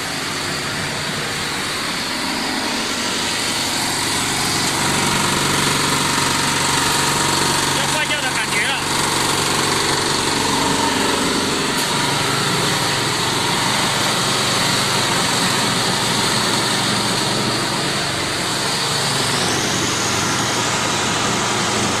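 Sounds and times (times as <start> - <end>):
cooling fans rushing air: 0.0 - 22.0.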